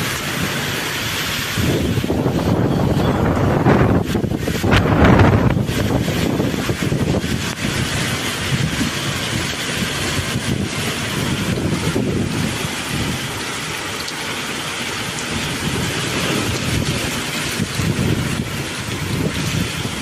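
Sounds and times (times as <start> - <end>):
heavy rain hiss: 0.0 - 20.0.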